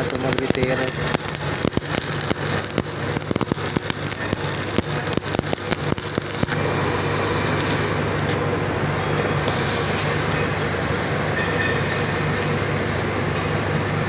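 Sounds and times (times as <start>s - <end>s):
low machine hum: 0.0s - 14.0s
welding arc crackling: 0.0s - 14.0s.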